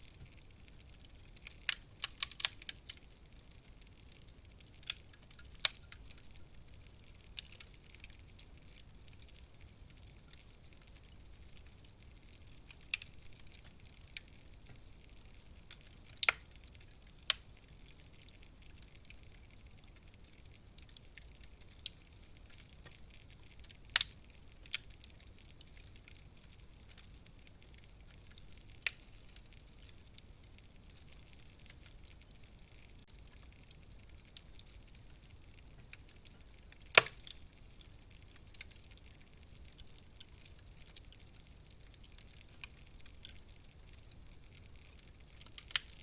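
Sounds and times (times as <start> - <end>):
fire pops and snaps: 0.0 - 46.0
fire soft hiss: 0.0 - 46.0.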